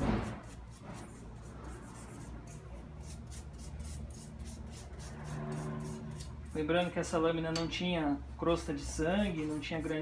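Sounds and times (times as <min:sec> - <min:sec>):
hand brush scrubbing metal: 0:00.1 - 0:06.9, 0:08.6 - 0:10.0.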